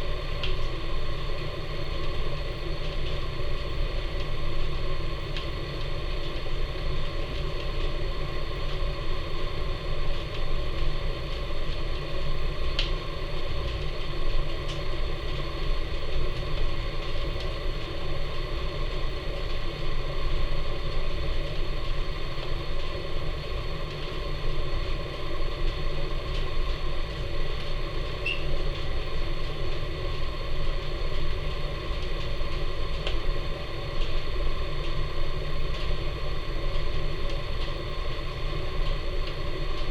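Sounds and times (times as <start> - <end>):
wood fire rumbling draft: 0.0 - 39.9
fire crackling: 0.1 - 39.9.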